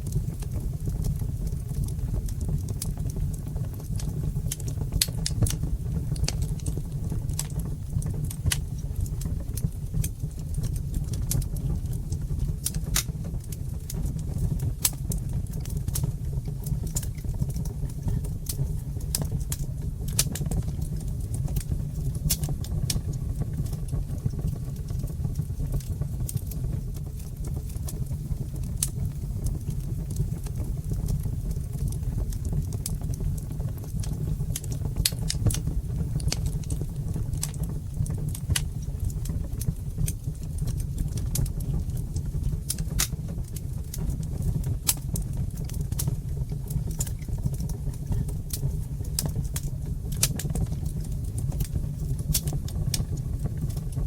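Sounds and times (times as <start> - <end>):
flames rumbling: 0.0 - 54.0
wood fire crackling: 0.0 - 54.0.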